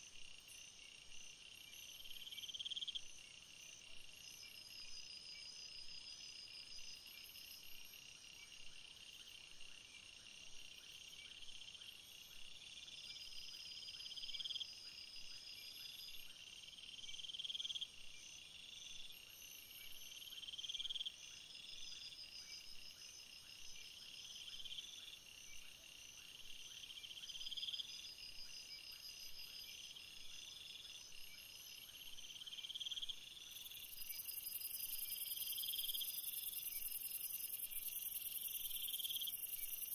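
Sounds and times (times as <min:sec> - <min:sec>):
insects chirring chorus: 0:00.0 - 0:39.9.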